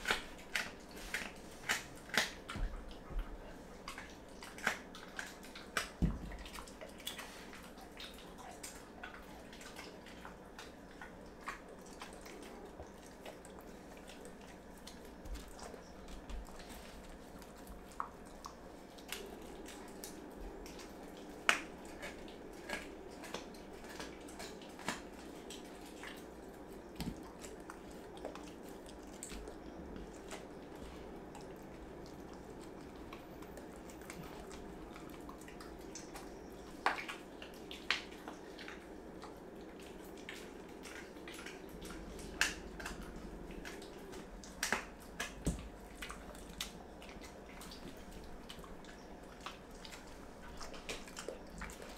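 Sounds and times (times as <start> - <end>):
dog chewing wet food: 0.0 - 51.9.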